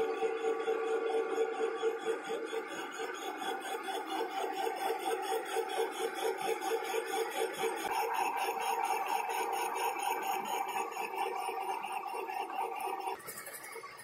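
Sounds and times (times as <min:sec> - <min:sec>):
metal lathe humming with pulsing: 0:00.0 - 0:14.0.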